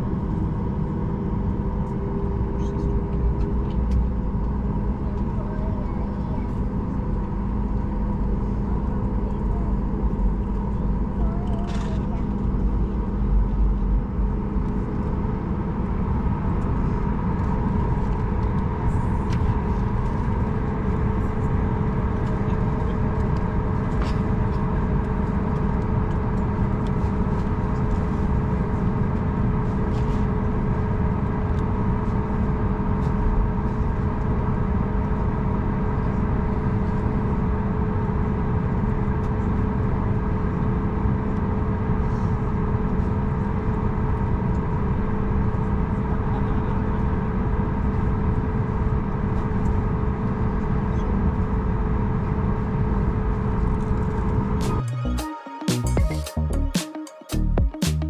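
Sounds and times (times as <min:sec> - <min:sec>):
airplane cabin engine rumble: 0:00.0 - 0:55.2
steady hum tones: 0:00.0 - 0:58.0.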